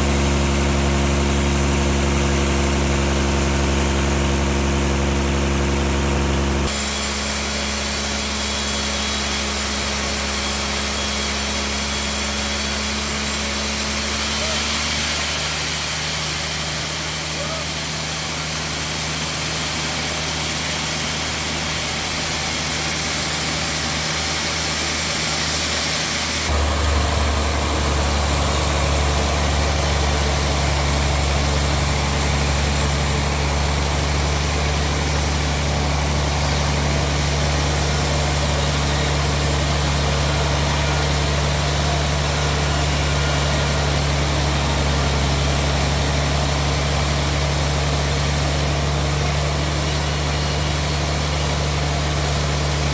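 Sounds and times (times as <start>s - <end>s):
bandsaw machinery humming: 0.0s - 52.9s.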